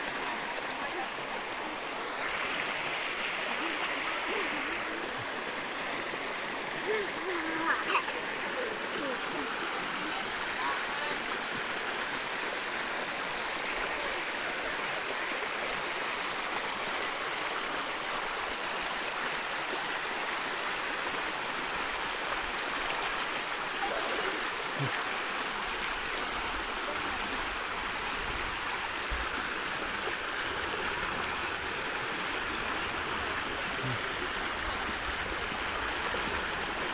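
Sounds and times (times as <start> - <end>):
stream water rushing over rock: 0.0 - 36.9.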